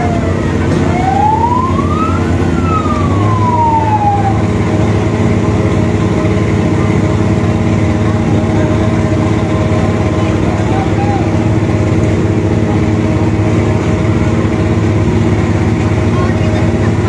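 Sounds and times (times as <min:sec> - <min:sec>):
fire engine siren wailing: 0:00.0 - 0:17.0
large engine rumbling: 0:00.0 - 0:17.0.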